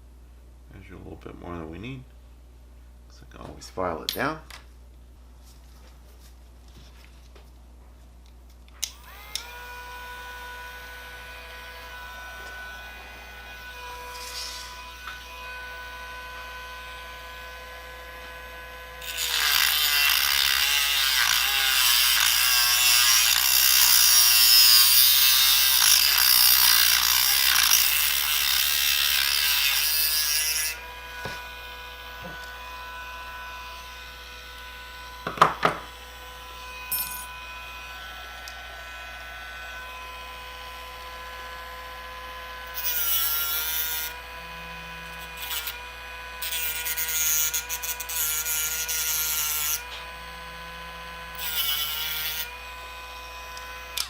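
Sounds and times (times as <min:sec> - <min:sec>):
rotary tool whining and grinding: 0:08.8 - 0:54.0.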